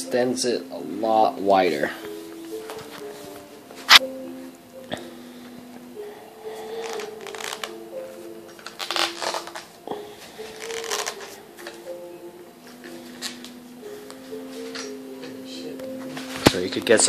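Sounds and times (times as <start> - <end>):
background music of held notes: 0.0 - 17.0.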